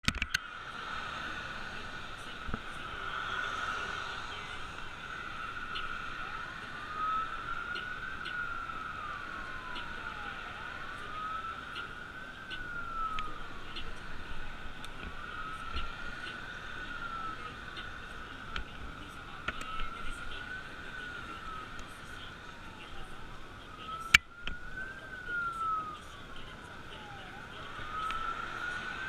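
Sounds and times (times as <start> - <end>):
ambulance siren wailing: 0.3 - 29.0.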